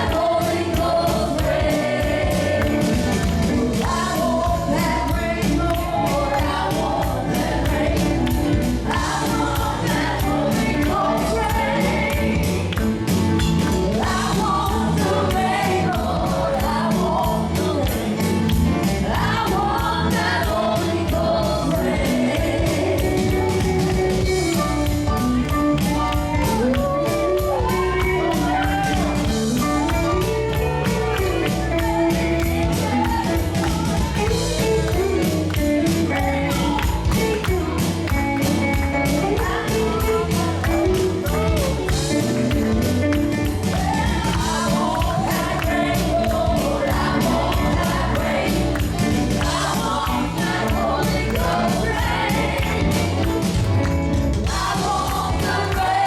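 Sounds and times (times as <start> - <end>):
gospel singing with band: 0.0 - 56.0.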